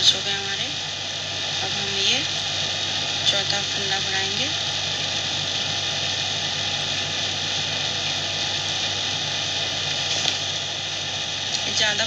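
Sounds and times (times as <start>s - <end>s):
constant mechanical hiss: 0.0s - 12.0s
low motor hum: 0.0s - 12.0s.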